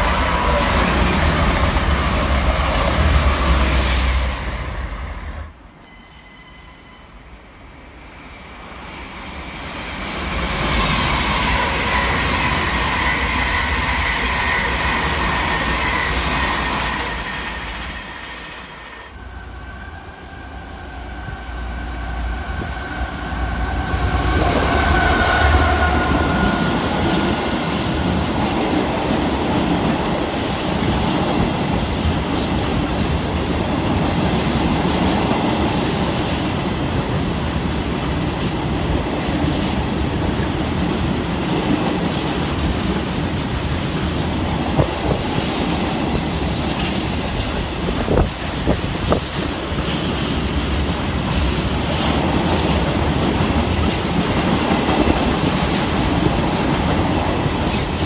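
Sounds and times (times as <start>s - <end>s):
diesel locomotive passing: 0.0s - 58.0s
train passing at speed: 0.0s - 58.0s.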